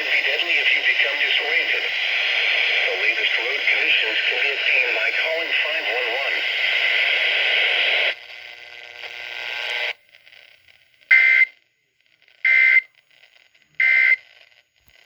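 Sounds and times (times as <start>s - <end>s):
noisy broadcast audio: 0.0s - 15.0s.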